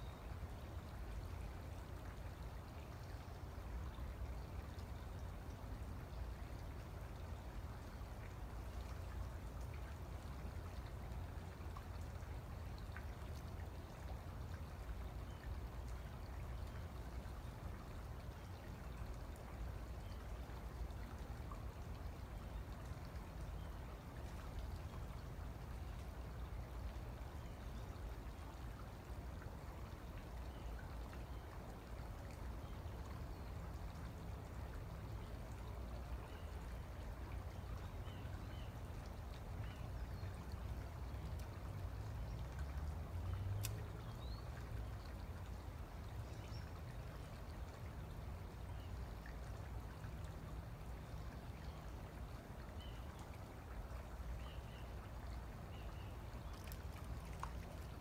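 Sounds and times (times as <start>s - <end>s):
low outdoor background noise: 0.0s - 58.0s.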